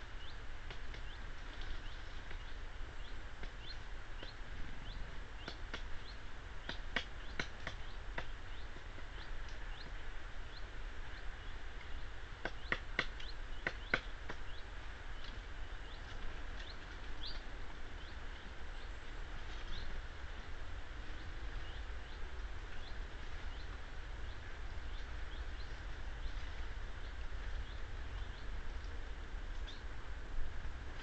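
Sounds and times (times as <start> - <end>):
steady low rumble: 0.0 - 12.2, 14.4 - 31.0
small birds chirping: 0.0 - 30.0.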